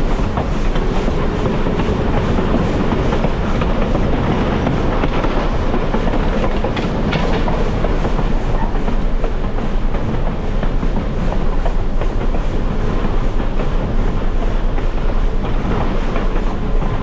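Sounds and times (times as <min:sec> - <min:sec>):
train cars rumbling and rattling: 0:00.0 - 0:17.0.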